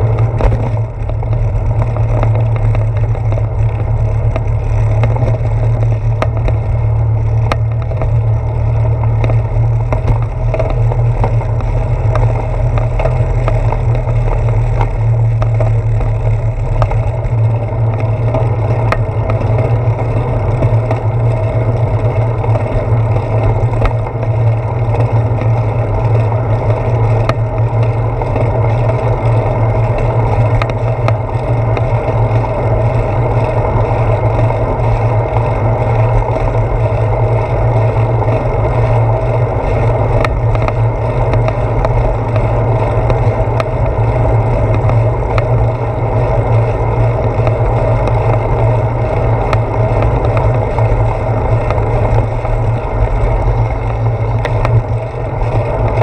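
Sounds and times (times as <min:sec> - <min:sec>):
bicycle wheels rolling: 0:00.0 - 0:56.0
sharp clicks and knocks: 0:00.0 - 0:56.0
wind rumble: 0:00.0 - 0:56.0.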